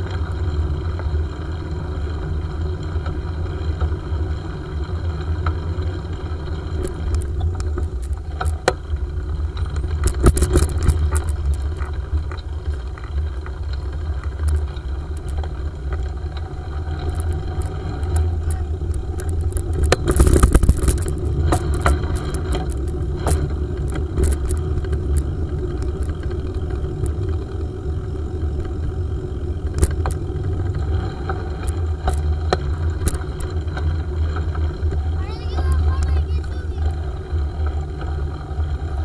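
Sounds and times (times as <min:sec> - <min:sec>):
bicycle riding rumble: 0:00.0 - 0:39.0
bike rattles and clicks: 0:00.0 - 0:39.0.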